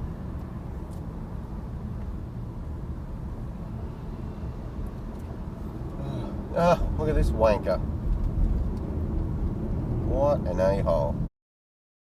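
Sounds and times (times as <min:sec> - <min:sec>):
car engine rumble: 0:00.0 - 0:11.3.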